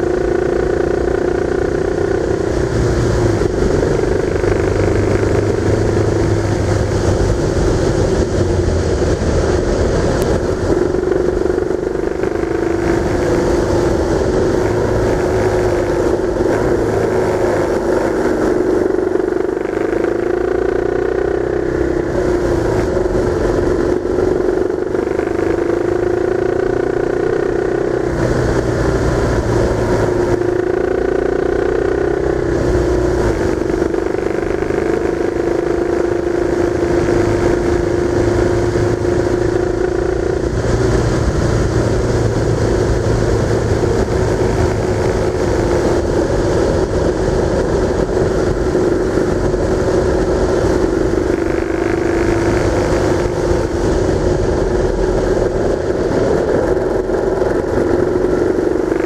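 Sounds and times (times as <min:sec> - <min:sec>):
road and wind noise: 0:00.0 - 0:59.0
vehicle engine running: 0:00.0 - 0:59.0.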